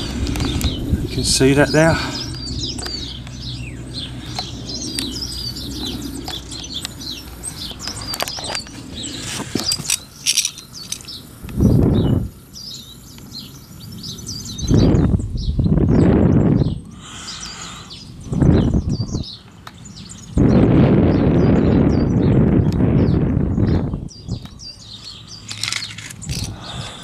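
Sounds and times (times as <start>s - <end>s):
songbirds chirping and singing: 0.0s - 27.0s.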